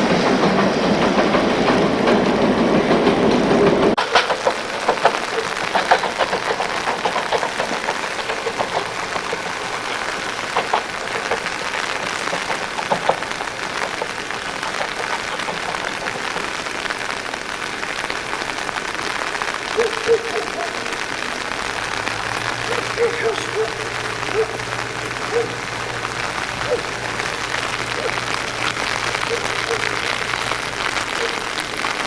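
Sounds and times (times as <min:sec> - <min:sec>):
raindrops ticking close by: 0:00.0 - 0:32.0
steady rain falling: 0:00.0 - 0:32.0.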